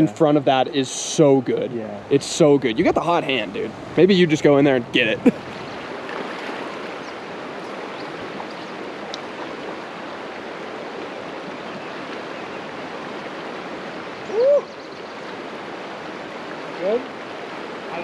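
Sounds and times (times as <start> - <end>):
creek rushing: 0.0 - 18.0.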